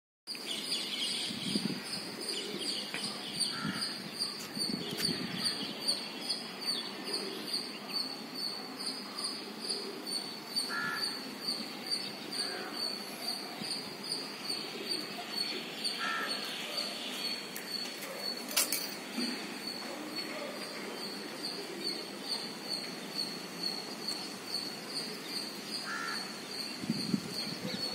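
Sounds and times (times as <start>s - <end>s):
flock of birds calling: 2.0s - 6.1s, 9.4s - 27.9s.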